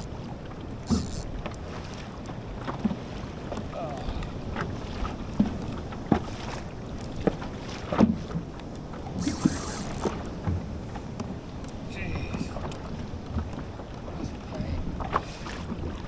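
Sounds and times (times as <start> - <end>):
water along kayak hull: 0.0 - 16.0.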